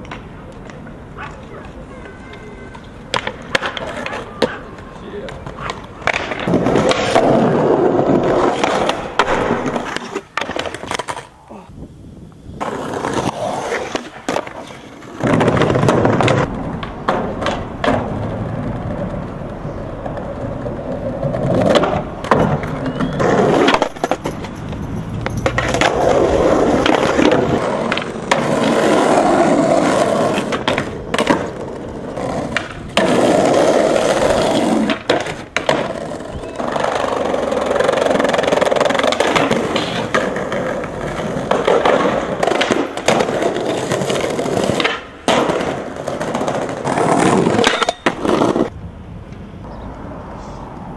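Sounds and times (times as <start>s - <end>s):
skateboard pops and slaps: 0.0s - 1.8s, 2.7s - 11.3s, 12.6s - 24.3s, 25.4s - 29.2s, 29.8s - 48.7s
skateboard wheels rolling: 0.0s - 50.9s.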